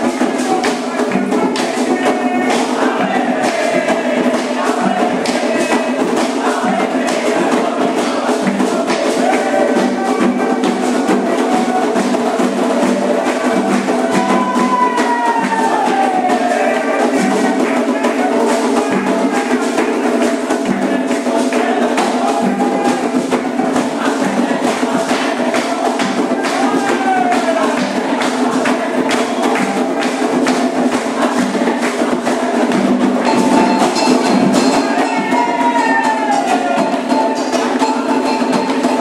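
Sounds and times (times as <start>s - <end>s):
hand percussion beat: 0.0s - 39.0s
voices singing a ritual chant: 0.0s - 39.0s.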